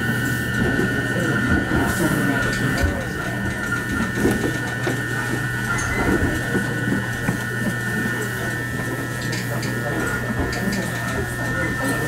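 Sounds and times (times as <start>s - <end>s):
electric train equipment humming: 0.0s - 12.0s
faint voices talking: 0.0s - 12.0s.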